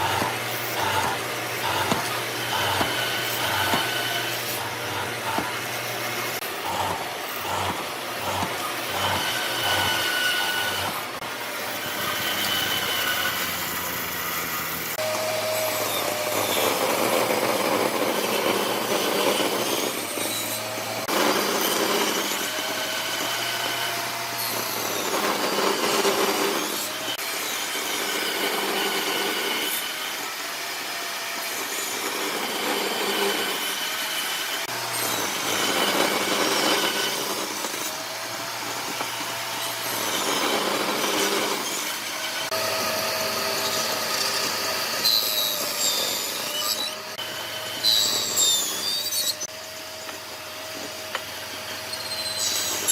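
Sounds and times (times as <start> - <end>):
power tool cutting wood: 0.0 - 52.9.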